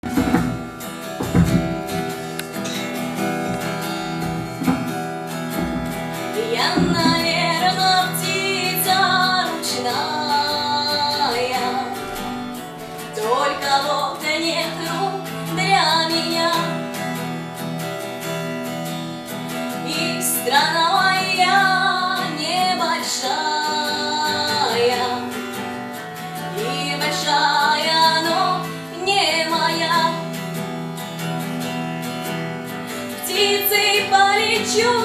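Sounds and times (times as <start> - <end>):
acoustic guitar plucked and strummed: 0.0 - 35.0.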